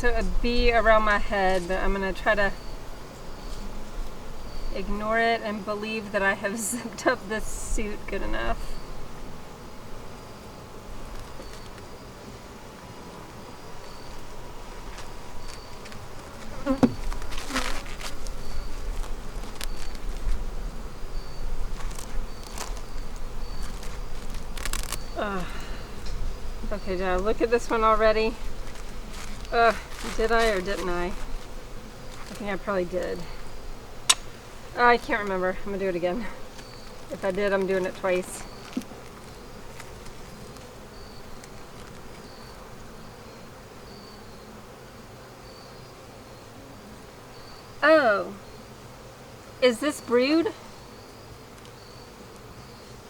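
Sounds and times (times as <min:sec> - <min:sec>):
bees buzzing: 0:00.0 - 0:53.0
bee flying past microphone: 0:08.6 - 0:53.0.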